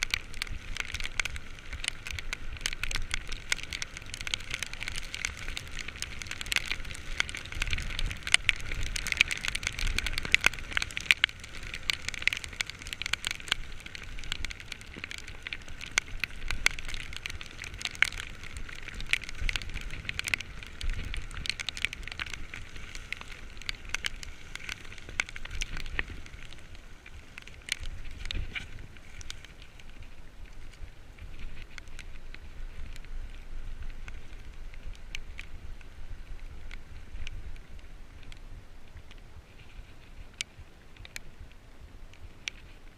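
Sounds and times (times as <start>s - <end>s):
heavy rain pattering: 0.0s - 42.9s.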